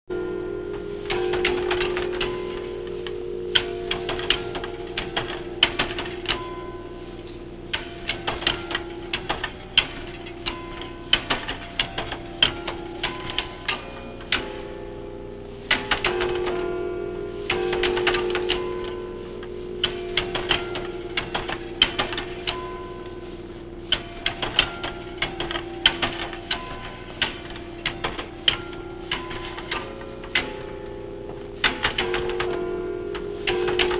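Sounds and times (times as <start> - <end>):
bell tower chimes playing: 0.1 - 33.9.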